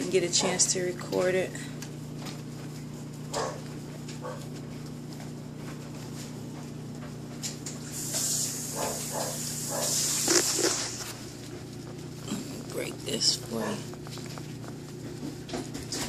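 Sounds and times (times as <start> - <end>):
steady low hum: 0.0 - 16.0
dogs crunching food: 0.1 - 16.0.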